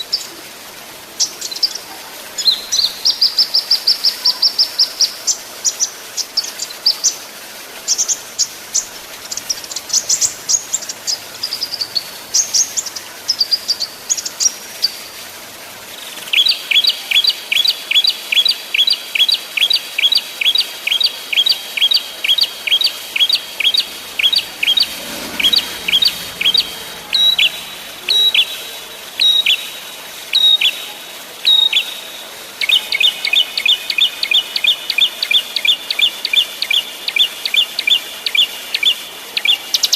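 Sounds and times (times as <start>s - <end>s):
songbirds chirping: 1.1s - 39.9s.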